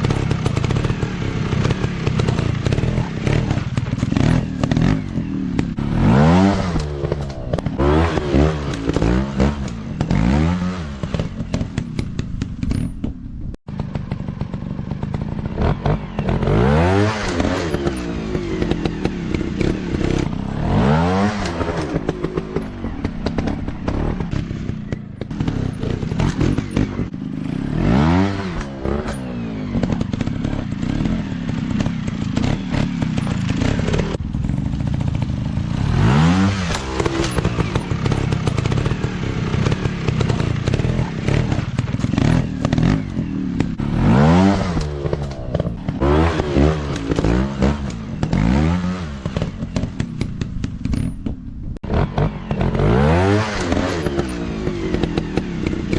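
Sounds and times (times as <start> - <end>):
dirt bike engine revving: 0.0 - 12.9, 13.7 - 55.9.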